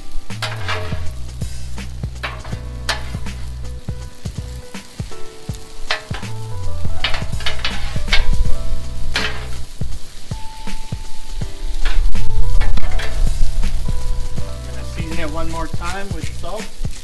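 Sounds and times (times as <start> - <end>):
background music with bass: 0.0 - 17.0
food sizzling: 0.0 - 17.0
metal spatulas scraping on griddle: 0.0 - 17.0.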